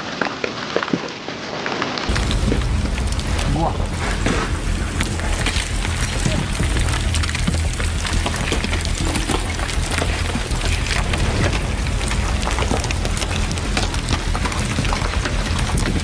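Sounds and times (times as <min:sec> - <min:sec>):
heavy rain pattering: 0:01.9 - 0:16.0
steady low rumble: 0:02.1 - 0:16.0.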